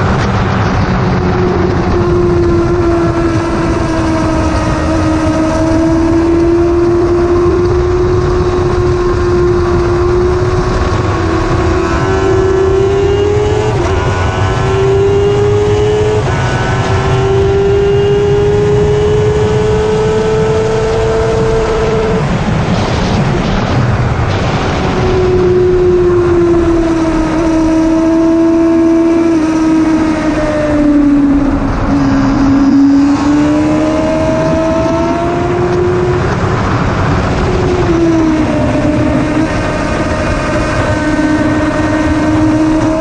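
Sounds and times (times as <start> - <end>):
motorcycle engine revving high: 0.0 - 43.0
wind rush on microphone: 0.0 - 43.0.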